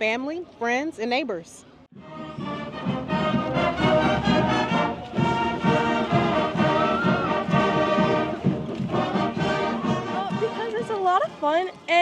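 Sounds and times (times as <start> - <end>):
marching band playing: 2.0 - 12.0.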